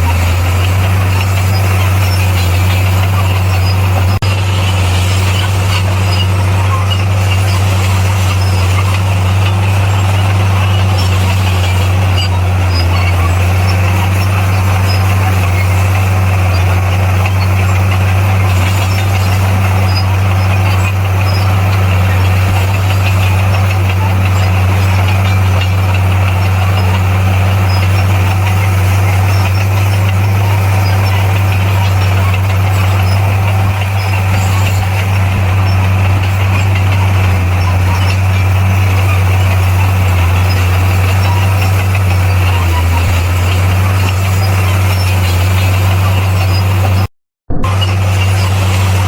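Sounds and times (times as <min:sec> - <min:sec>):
bulldozer diesel engine droning: 0:00.0 - 0:49.0.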